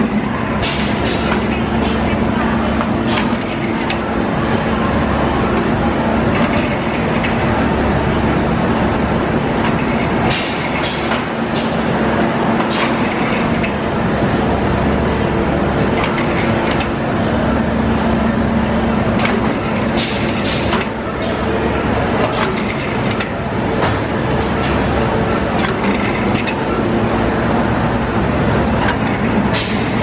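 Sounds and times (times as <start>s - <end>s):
machine hum and rumble: 0.0s - 30.0s.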